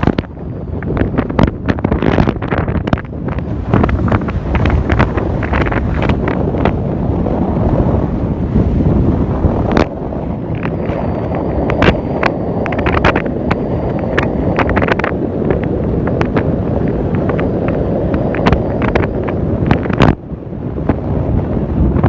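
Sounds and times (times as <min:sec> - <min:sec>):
car engine rumble: 0:00.0 - 0:22.0
wind buffeting microphone: 0:00.0 - 0:22.0.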